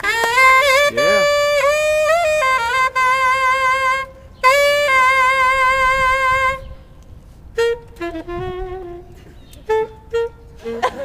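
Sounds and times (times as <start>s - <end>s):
saxophone long notes: 0.0s - 6.9s, 7.5s - 11.0s.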